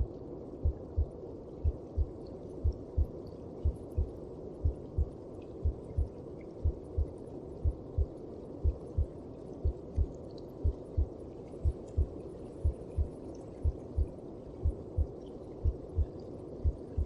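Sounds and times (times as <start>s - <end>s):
heartbeat thumps: 0.6s - 17.0s.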